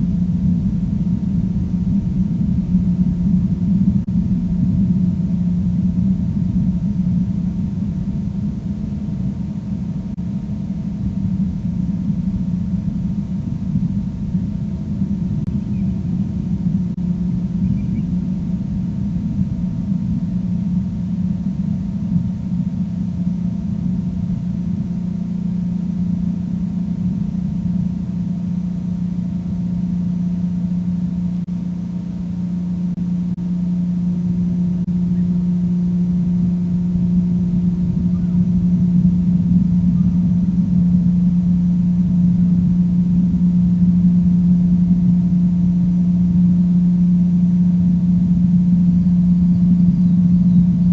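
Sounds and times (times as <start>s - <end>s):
low droning hum: 0.0s - 50.9s.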